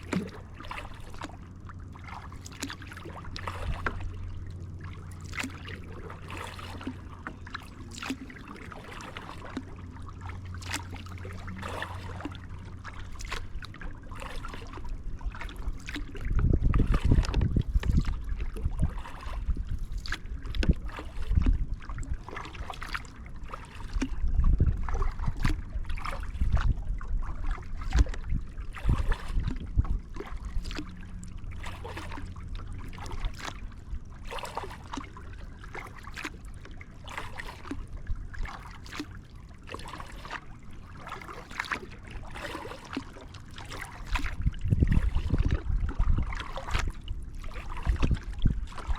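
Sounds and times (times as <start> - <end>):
low rumbling: 0.0 - 35.8, 43.4 - 48.9
paddle splashing in water: 0.0 - 48.9.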